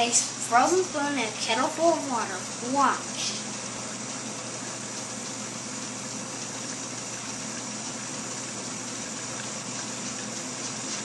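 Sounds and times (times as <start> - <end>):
kettle boiling with hissing steam: 0.0 - 11.0.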